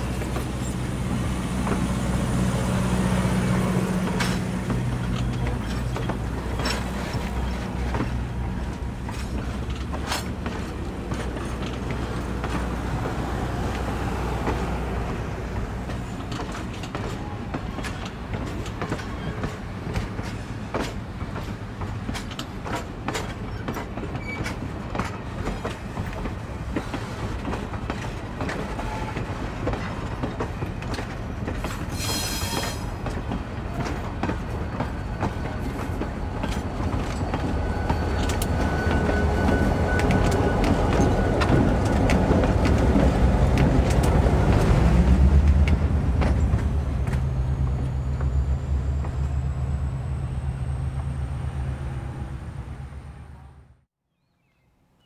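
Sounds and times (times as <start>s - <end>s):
train wheels clicking over rail joints: 0.0s - 52.2s
train rumble: 0.0s - 53.9s.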